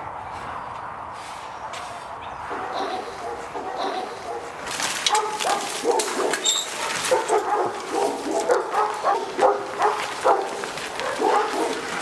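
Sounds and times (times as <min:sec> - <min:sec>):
dogs barking and yipping: 0:02.3 - 0:12.0.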